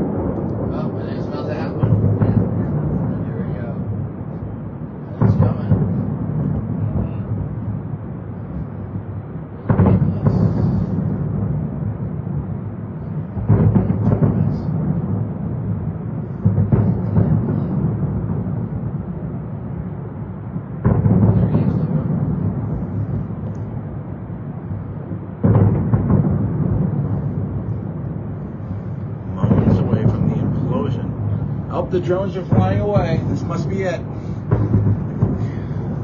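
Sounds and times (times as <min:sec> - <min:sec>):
aerial fireworks booming: 0:00.0 - 0:36.0.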